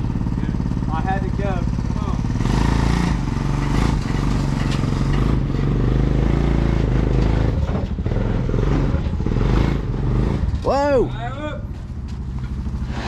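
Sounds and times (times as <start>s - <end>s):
atv engine running under load: 0.0s - 13.0s.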